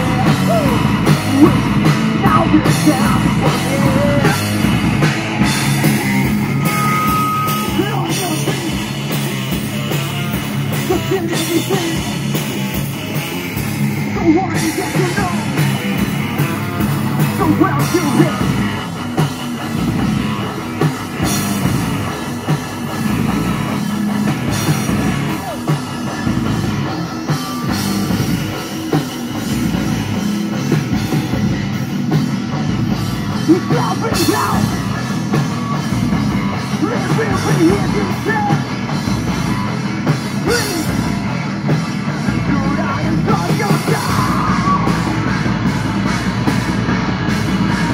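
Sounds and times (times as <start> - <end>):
live metal band playing: 0.0 - 47.9.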